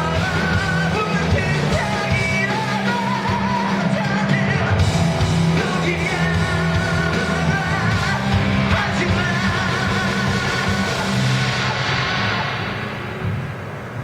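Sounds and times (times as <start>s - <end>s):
live rock band with singer: 0.0s - 14.0s.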